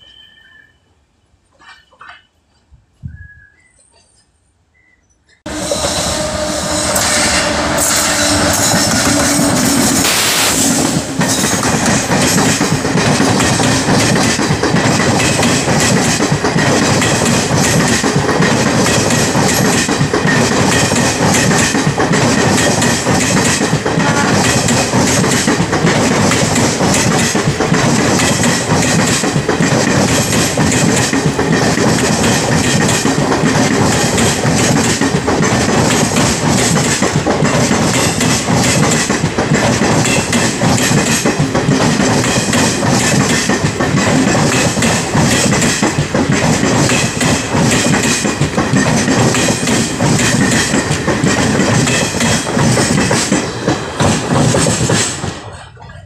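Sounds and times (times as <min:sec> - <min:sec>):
train wheels rushing on rails: 0:04.8 - 0:56.0
wheels clacking over rail joints: 0:10.8 - 0:56.0.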